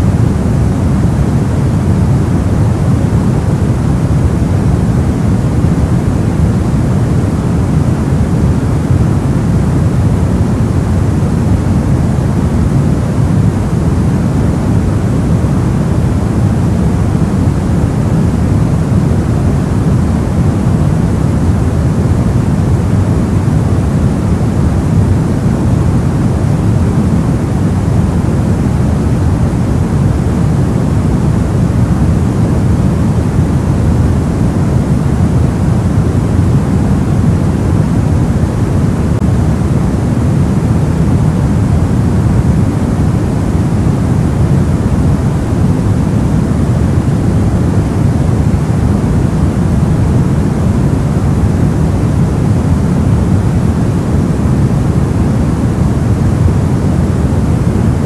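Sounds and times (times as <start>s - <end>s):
deep white noise hiss: 0.0s - 58.0s.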